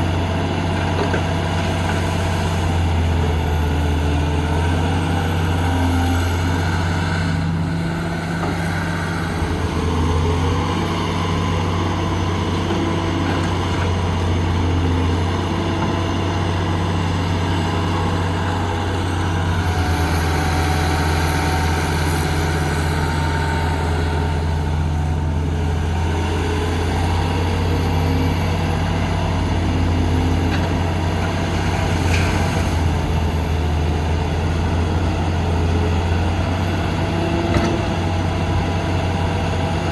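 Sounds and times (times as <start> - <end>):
diesel engine of heavy machinery: 0.0 - 39.9.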